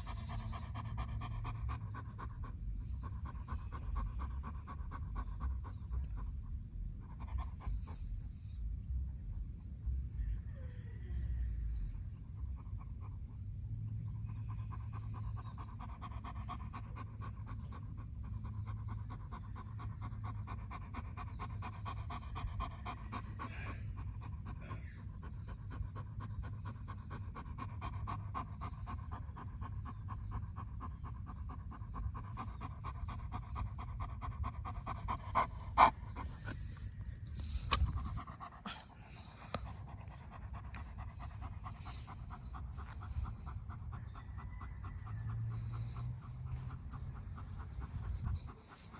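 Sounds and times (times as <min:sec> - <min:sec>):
dog panting: 0:00.0 - 0:48.9.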